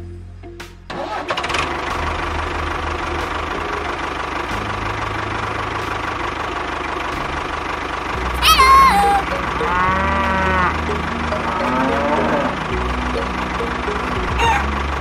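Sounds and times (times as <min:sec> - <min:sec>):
diesel tractor engine: 0:00.9 - 0:15.0.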